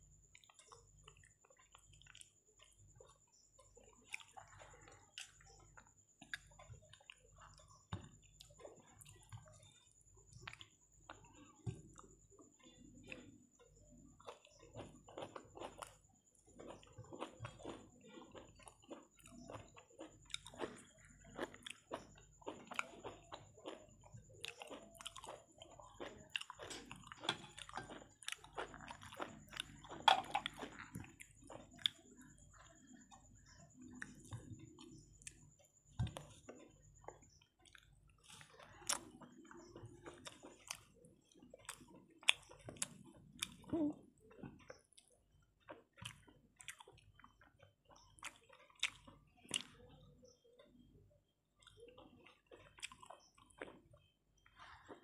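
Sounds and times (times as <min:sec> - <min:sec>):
woman chewing food: 0:00.0 - 0:55.0.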